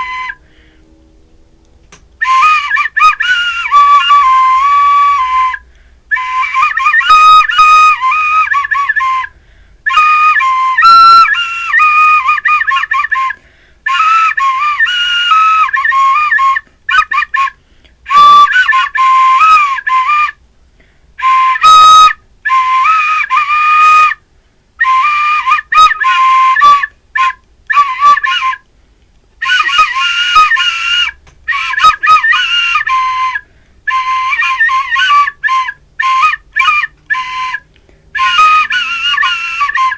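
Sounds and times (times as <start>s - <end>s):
flute playing high melody: 0.0s - 1.1s, 1.9s - 20.4s, 21.2s - 24.2s, 24.8s - 28.7s, 29.4s - 39.9s.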